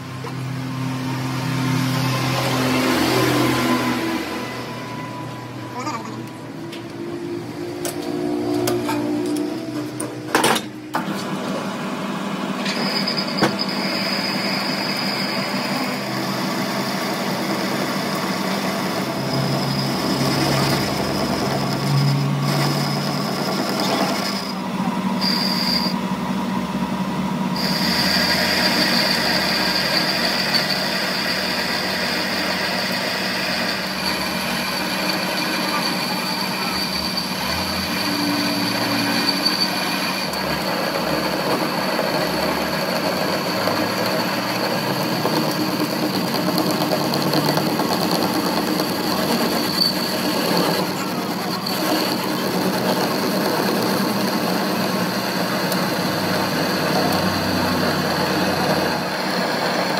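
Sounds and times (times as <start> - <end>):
metal lathe cutting: 0.0 - 59.9.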